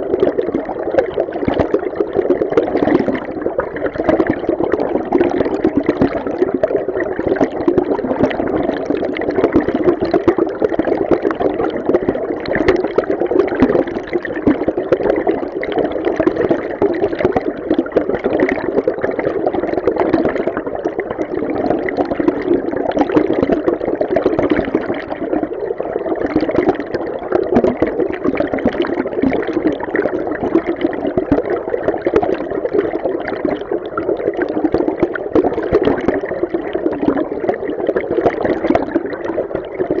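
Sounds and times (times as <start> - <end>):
muffled underwater stream rushing: 0.0 - 40.0.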